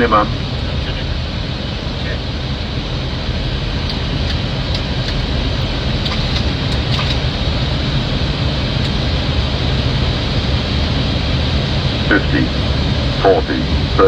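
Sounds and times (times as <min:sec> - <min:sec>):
cockpit airflow and engine noise: 0:00.0 - 0:14.0.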